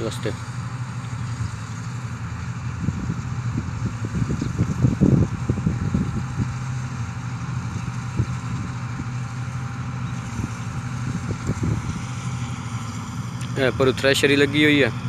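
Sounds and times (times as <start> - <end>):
wind buffeting microphone: 0.0 - 14.0
combine harvester engine humming: 0.0 - 15.0.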